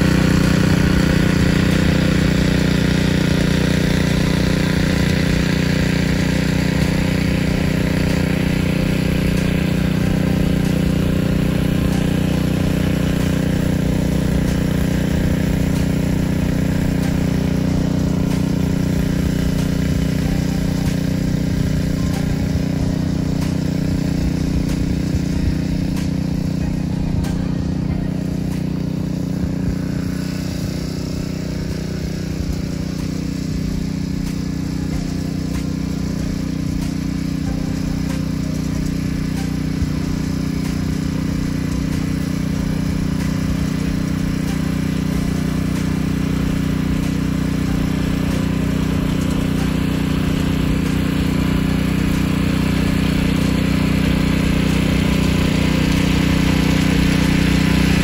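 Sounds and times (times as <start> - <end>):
garden tiller engine running: 0.0 - 58.0.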